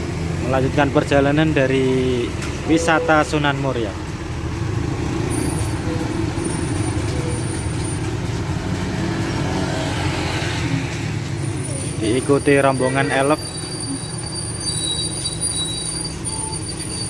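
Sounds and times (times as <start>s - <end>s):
bus diesel engine pulling away: 0.0s - 17.0s.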